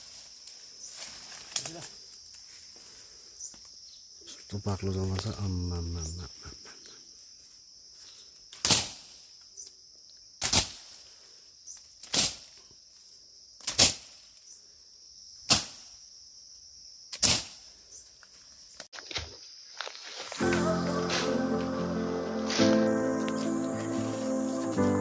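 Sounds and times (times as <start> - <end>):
jungle insects droning: 0.0 - 25.0.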